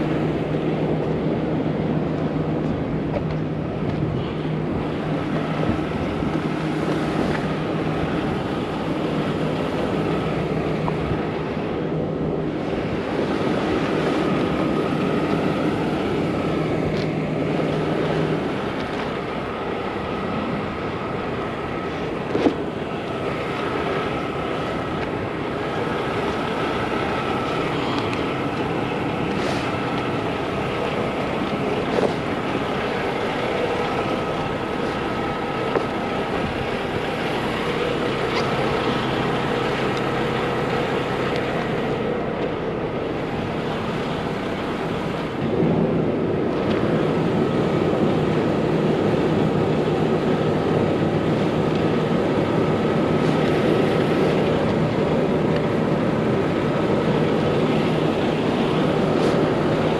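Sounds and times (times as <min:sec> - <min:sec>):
truck engine idling: 0:00.0 - 0:59.9
wind noise on microphone: 0:00.0 - 0:59.9.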